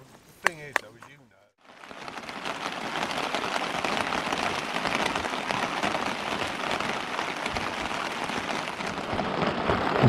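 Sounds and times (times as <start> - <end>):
heavy rain on a tent: 1.6 - 10.0.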